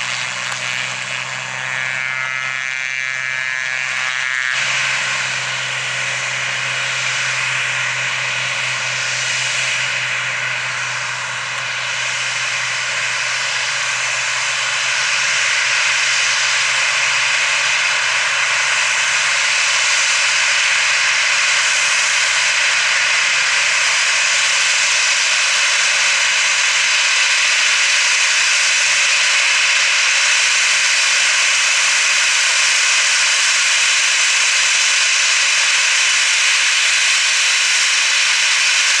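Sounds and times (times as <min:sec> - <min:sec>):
jet engines at takeoff power: 0:00.0 - 0:39.0.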